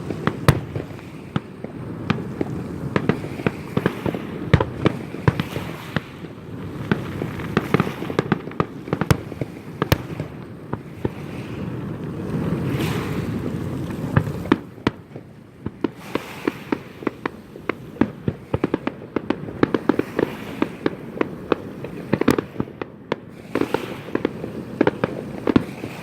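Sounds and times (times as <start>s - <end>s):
fireworks bangs and cracks: 0.0s - 26.0s
rumble of distant fireworks: 0.0s - 26.0s.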